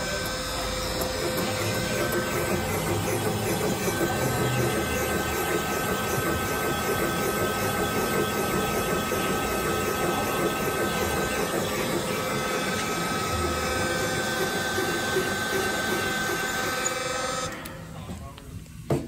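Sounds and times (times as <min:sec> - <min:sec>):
machine cutter whining: 0:00.0 - 0:18.1.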